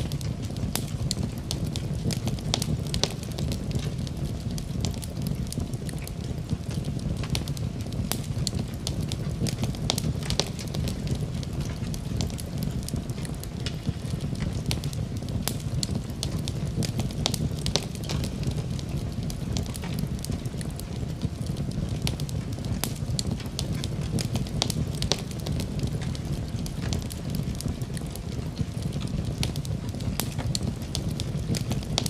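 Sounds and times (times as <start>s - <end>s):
fire popping and snapping: 0.0s - 32.0s
fire roaring: 0.0s - 32.0s.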